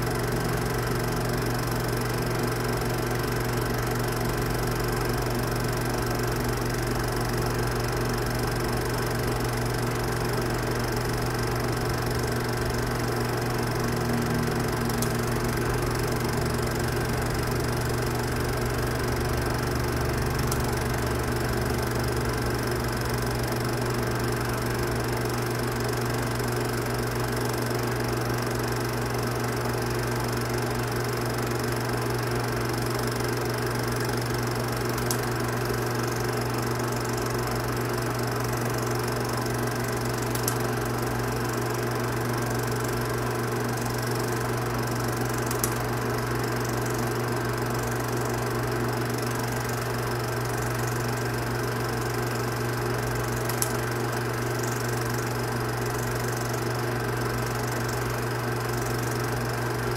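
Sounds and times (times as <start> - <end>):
film projector humming and whirring: 0.0 - 59.9.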